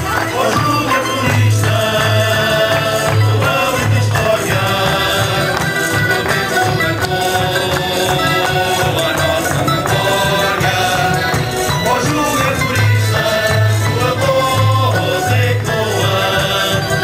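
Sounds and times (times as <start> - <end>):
accordion: 0.0 - 17.0
double bass: 0.0 - 17.0
male chorus singing: 0.0 - 17.0
mandolins: 0.0 - 17.0
strummed acoustic guitars: 0.0 - 17.0.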